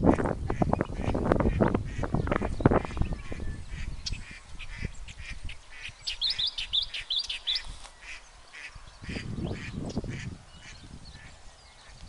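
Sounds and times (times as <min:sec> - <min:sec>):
birds squawking: 0:00.2 - 0:12.0.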